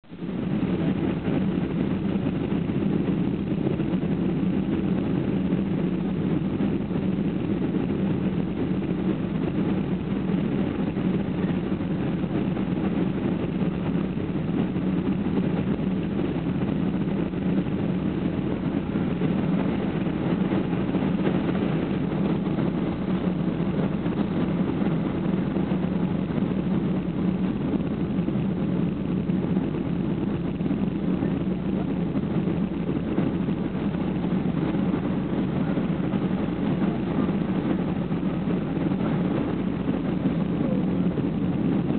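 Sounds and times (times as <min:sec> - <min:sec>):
aircraft engines droning in cabin: 0:00.0 - 0:41.9
rushing air: 0:00.0 - 0:41.9.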